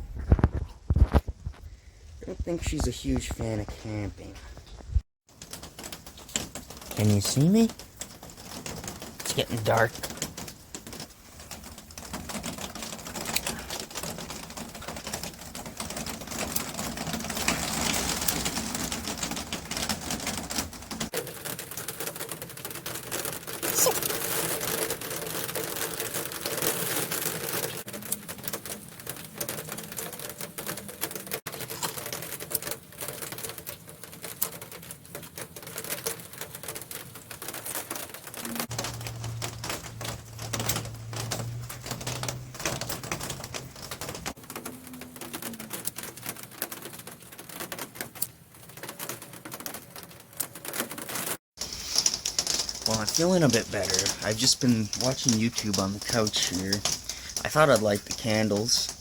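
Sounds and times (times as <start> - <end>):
rain pattering on a gazebo cover: 0.0 - 59.0.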